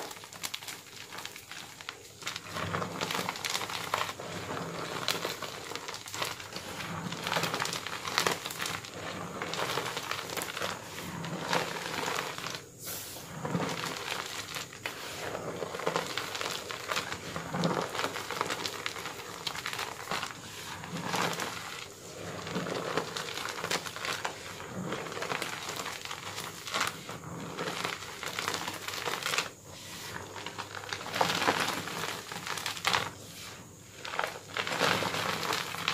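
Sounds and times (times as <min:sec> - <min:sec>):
chalk crunching in hands: 0:00.0 - 0:35.9.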